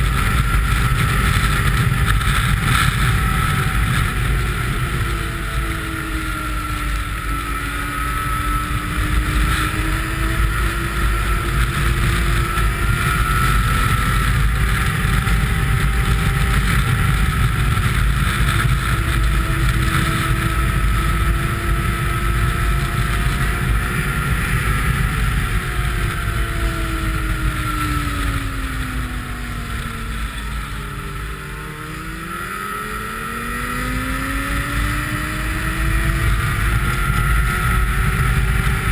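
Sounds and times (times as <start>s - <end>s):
snowmobile engine running: 0.0s - 38.9s
wind rumbling on microphone: 0.0s - 38.9s.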